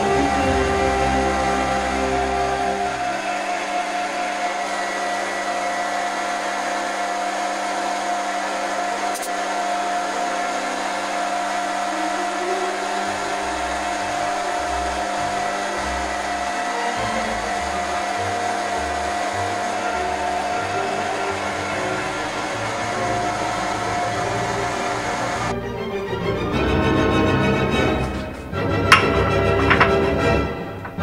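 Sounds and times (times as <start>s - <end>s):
lathe motor whining: 0.0s - 25.6s, 26.6s - 31.0s.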